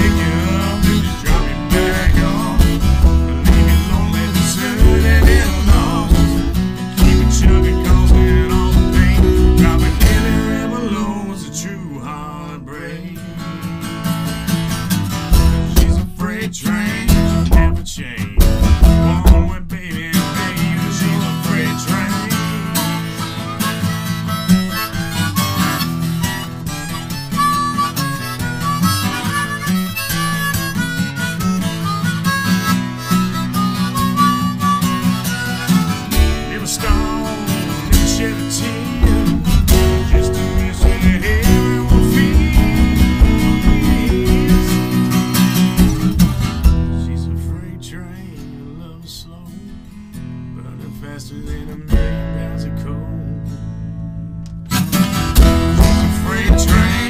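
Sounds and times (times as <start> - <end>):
harmonica: 0.0 - 47.7, 54.7 - 57.0
acoustic guitar: 0.0 - 57.0.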